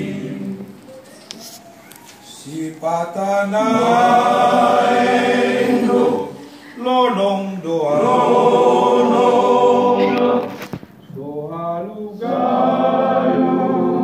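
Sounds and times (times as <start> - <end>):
men's choir singing: 0.0 - 0.8, 2.4 - 14.0.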